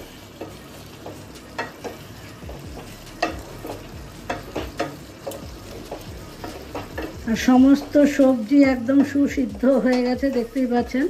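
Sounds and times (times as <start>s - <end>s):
spatula scraping a pan: 0.0s - 11.0s.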